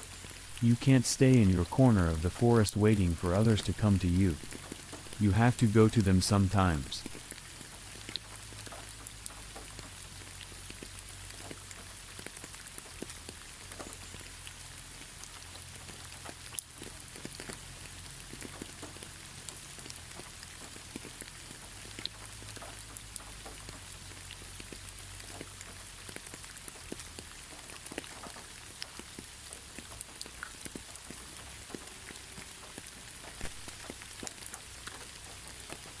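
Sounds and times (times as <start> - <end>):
gentle rain falling: 0.0 - 36.0.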